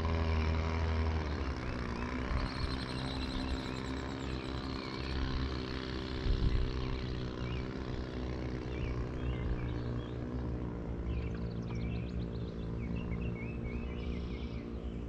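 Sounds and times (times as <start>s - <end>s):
engine droning: 0.0s - 15.0s
birds chirping: 0.1s - 15.0s.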